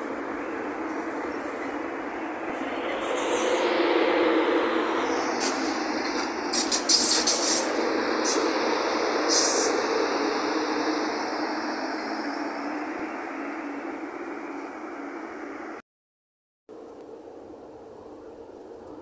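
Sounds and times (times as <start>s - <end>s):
electric train rumbling: 0.0s - 15.8s.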